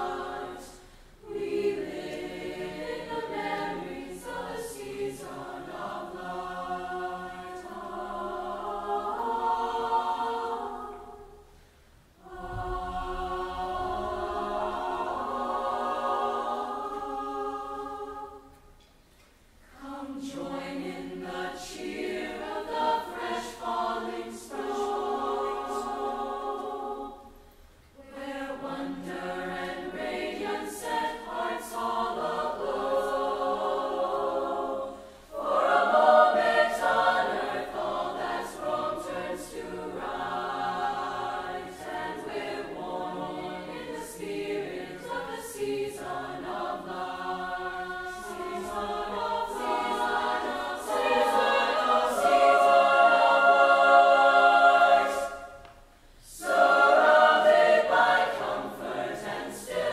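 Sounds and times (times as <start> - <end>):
mixed choir singing: 0.0 - 18.8, 19.7 - 59.9.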